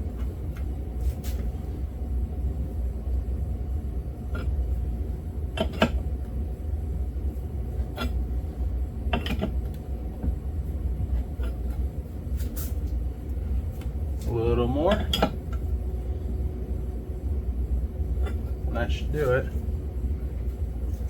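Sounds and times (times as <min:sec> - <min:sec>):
faint hum: 0:00.0 - 0:21.0
steady low rumble: 0:00.0 - 0:21.0.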